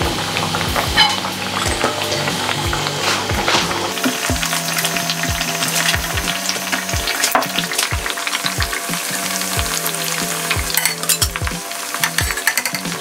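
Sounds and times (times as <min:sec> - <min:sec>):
fritters deep-frying in hot oil: 0:00.0 - 0:13.0.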